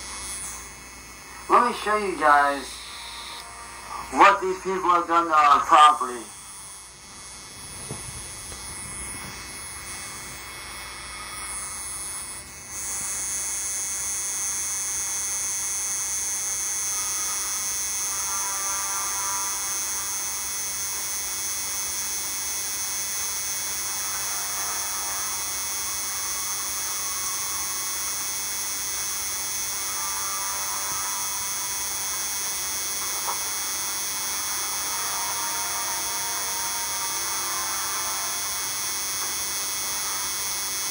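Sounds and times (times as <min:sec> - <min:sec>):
electronic hiss and hum: 0:00.0 - 0:40.9.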